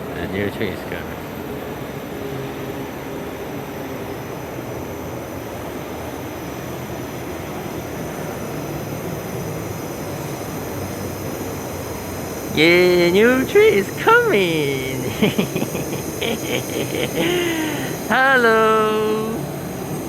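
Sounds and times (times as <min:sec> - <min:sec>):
light rail train arriving: 0:00.0 - 0:20.0.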